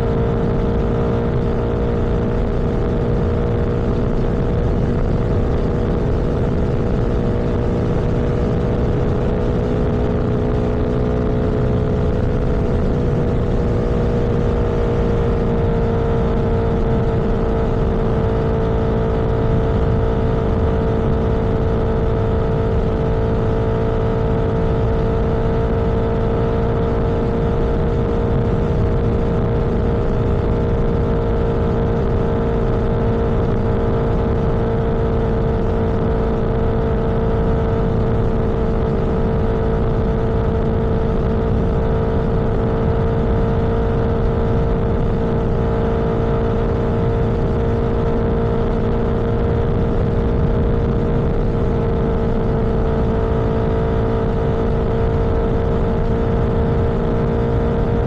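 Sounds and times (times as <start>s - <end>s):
road noise rush: 0.0s - 58.0s
vehicle engine drone: 0.0s - 58.0s.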